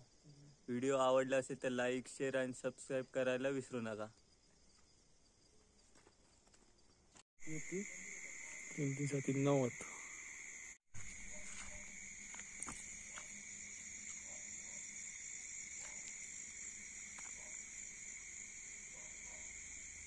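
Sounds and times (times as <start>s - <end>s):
faint insect chirps: 0.0s - 20.0s
insects trilling: 0.0s - 20.0s.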